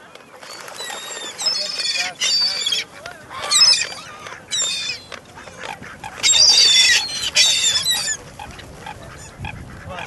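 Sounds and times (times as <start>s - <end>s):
geese honking: 0.4s - 10.0s.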